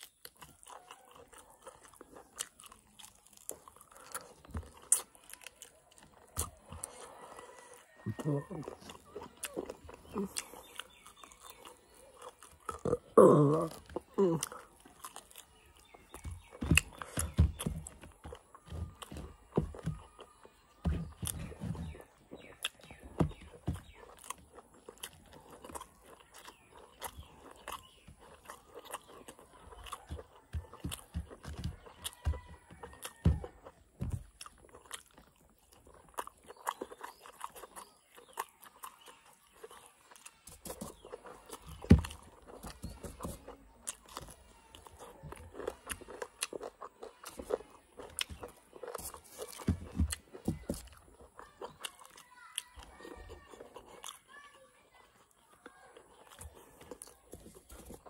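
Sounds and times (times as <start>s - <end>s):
chewing and lip smacks: 0.0s - 58.0s.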